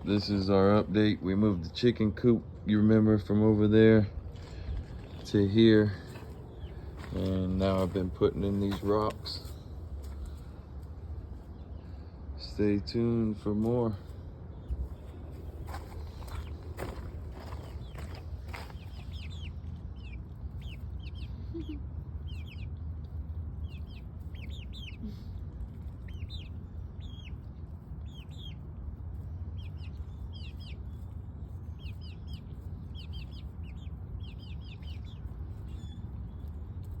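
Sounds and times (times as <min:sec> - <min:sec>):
birds chirping: 0:00.0 - 0:37.0
steady low rumble: 0:00.0 - 0:37.0.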